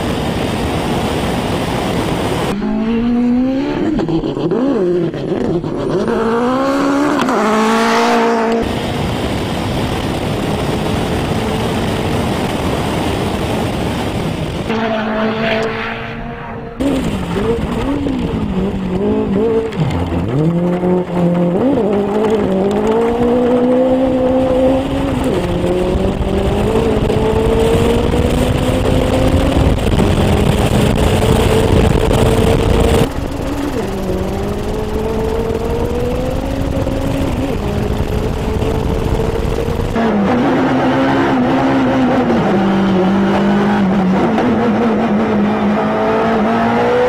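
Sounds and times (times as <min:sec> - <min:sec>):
rally car engine at full throttle: 0:00.0 - 0:47.0.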